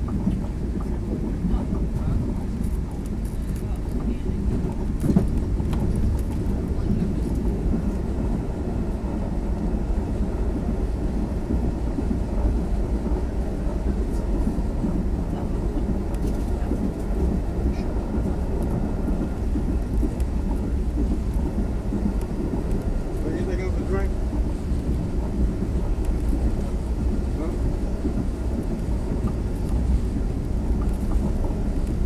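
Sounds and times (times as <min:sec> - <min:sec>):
passenger train rumbling: 0:00.0 - 0:32.0.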